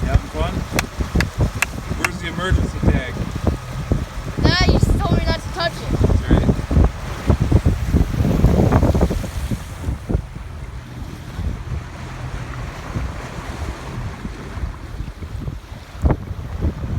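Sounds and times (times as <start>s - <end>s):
water rushing around boat: 0.0s - 16.9s
wind buffeting microphone: 0.0s - 16.9s.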